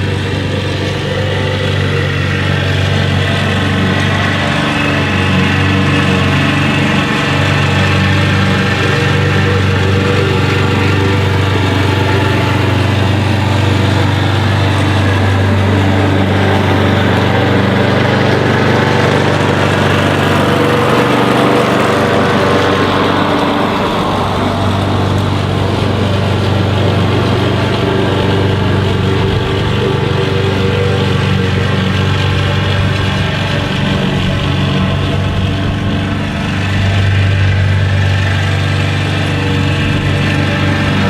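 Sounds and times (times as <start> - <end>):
engine humming: 0.0 - 41.0.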